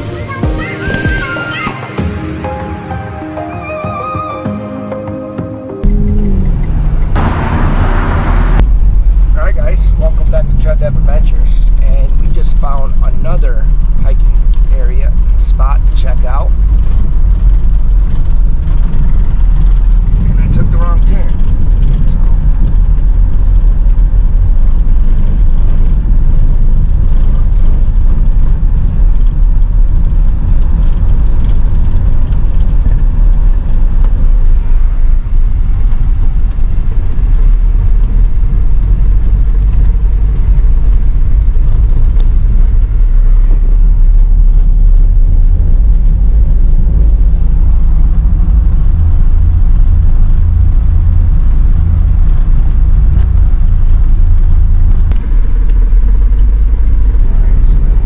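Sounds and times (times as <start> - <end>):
tyres and engine rumbling: 0.0 - 58.0.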